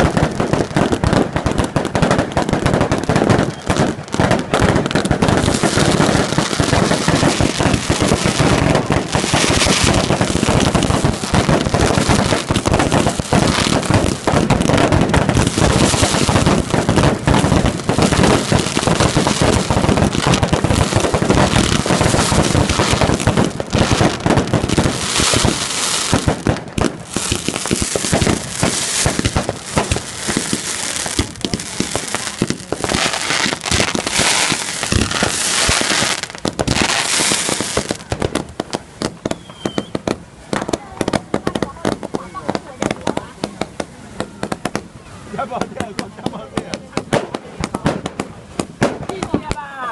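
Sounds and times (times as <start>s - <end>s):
fireworks crackling pops: 0.0s - 49.9s
fireworks hissing: 0.0s - 49.9s.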